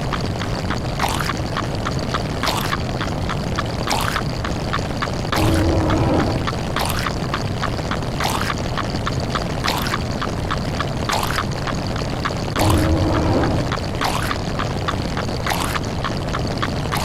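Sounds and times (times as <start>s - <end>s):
rapid even clicks: 0.0s - 17.0s.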